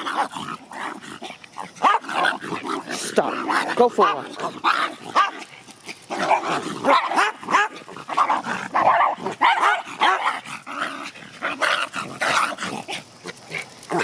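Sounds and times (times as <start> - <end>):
small dogs barking and growling: 0.0 - 14.0.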